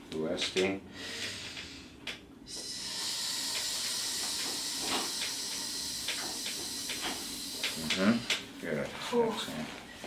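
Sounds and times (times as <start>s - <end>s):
steady high hiss: 0.5s - 8.8s.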